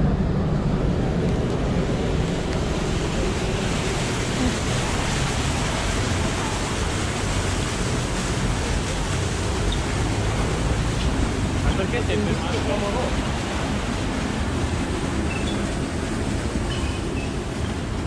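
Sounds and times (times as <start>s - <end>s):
busy city street noise: 0.0s - 18.0s.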